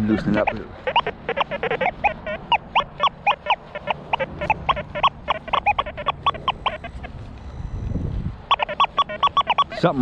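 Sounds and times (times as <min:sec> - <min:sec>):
metal detector chirping tones: 0:00.1 - 0:10.0.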